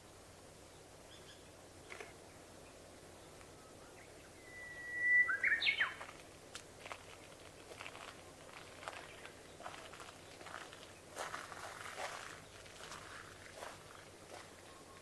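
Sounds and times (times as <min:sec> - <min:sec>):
songbird singing: 0:00.5 - 0:06.6, 0:07.2 - 0:15.0.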